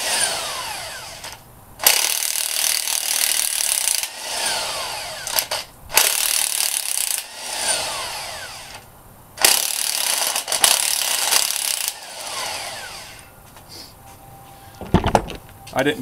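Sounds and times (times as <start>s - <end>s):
power tool whining: 0.0s - 13.4s.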